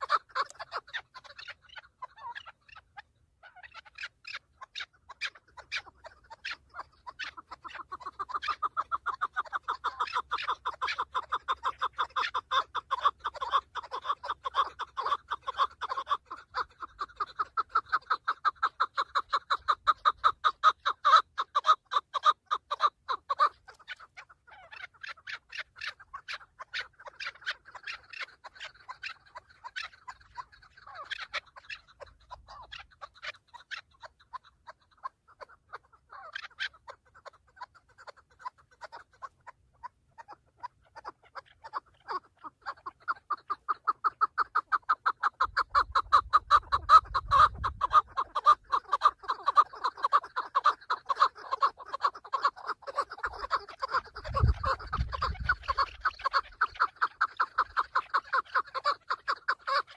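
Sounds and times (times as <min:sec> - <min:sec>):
partridge clucking call: 0:00.0 - 0:59.9.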